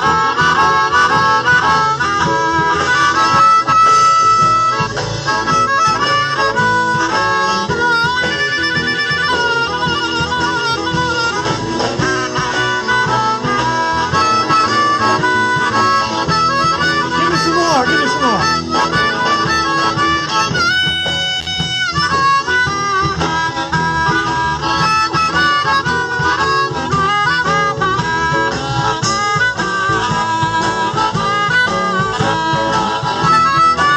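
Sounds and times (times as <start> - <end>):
amplified harmonica: 0.0 - 33.9
live rock band: 0.0 - 33.9.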